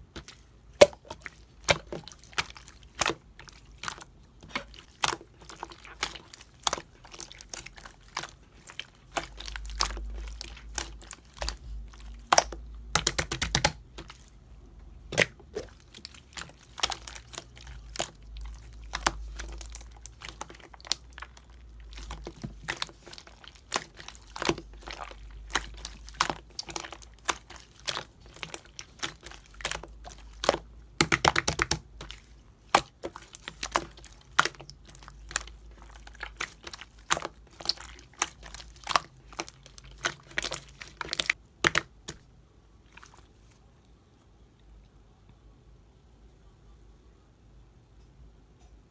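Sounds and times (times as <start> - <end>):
slime crackling and popping: 0.0 - 14.2, 15.1 - 42.2.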